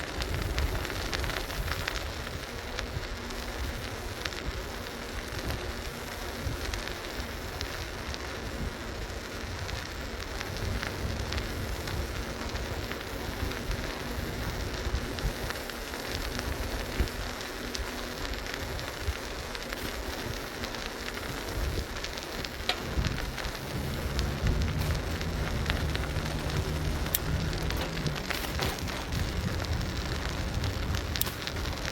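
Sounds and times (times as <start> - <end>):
bicycle clicks and rattles: 0.0 - 31.9
tyres hissing on pavement: 0.0 - 31.9
wind rumbling on microphone: 0.0 - 31.9.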